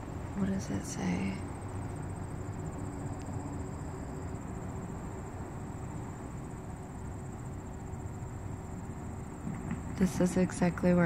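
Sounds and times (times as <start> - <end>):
car engine and road rumble: 0.0 - 11.0
faint high-pitched whine: 0.0 - 11.0.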